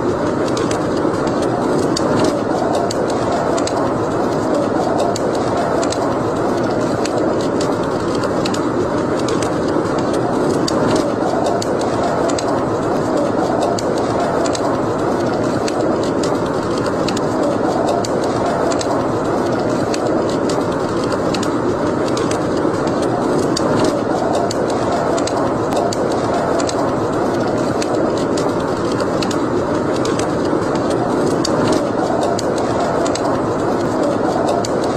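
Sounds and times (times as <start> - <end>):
steady rushing noise: 0.0 - 34.9
wood fire crackling and popping: 0.0 - 34.9.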